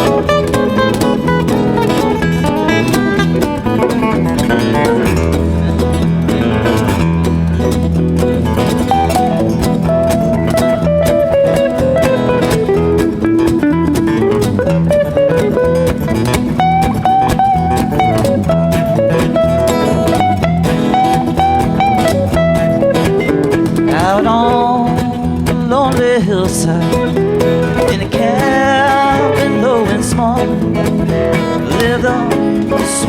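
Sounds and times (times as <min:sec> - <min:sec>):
acoustic guitars playing bluegrass: 0:00.0 - 0:33.0
cajon beat: 0:00.0 - 0:33.0.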